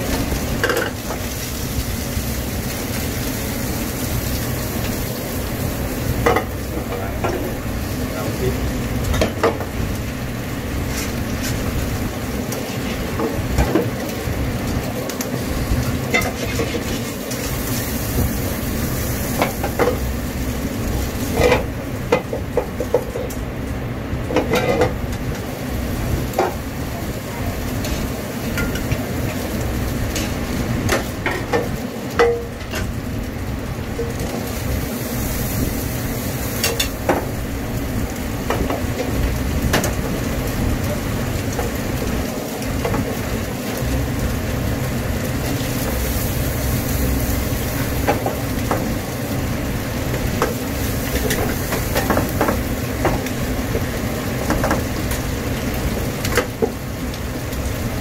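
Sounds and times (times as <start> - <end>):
food sizzling in a frying pan: 0.0 - 58.0.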